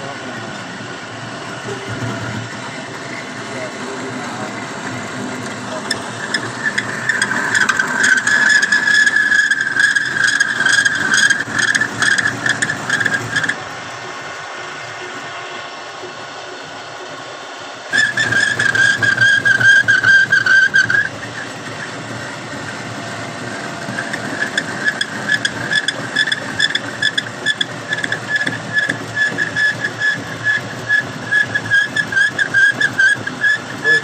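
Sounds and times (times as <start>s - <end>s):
power tool whining: 0.0s - 16.1s, 17.8s - 34.0s.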